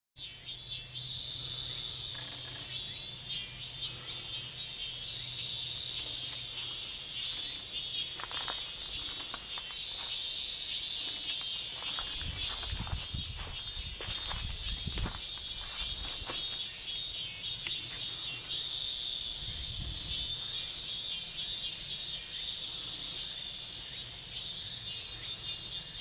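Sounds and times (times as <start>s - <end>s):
high-pitched insect buzz: 0.2s - 26.0s
very high insect chirps: 0.2s - 26.0s.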